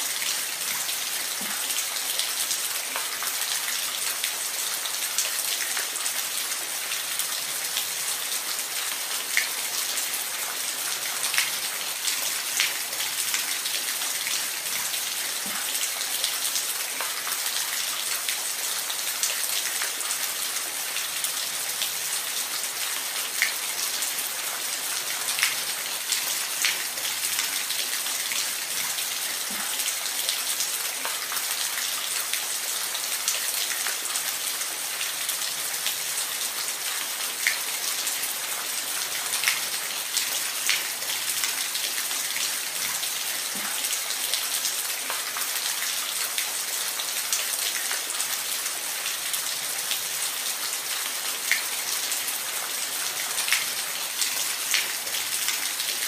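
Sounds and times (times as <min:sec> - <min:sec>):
water drips and splashes: 0:00.0 - 0:56.0.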